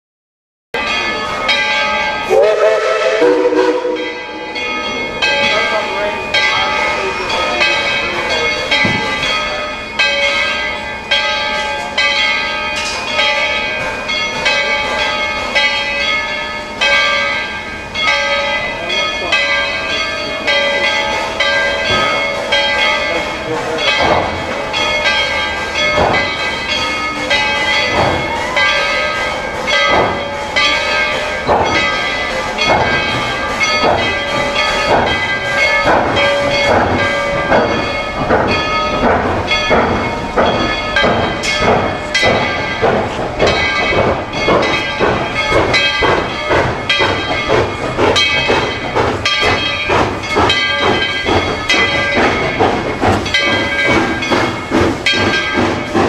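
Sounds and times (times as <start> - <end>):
locomotive bell ringing: 0.8 - 56.0.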